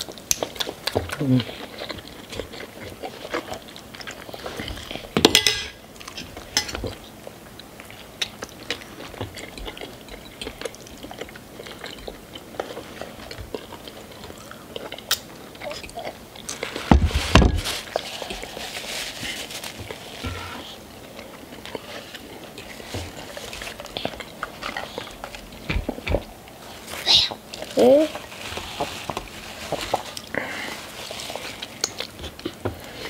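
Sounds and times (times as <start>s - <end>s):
people chewing: 0.0s - 33.0s.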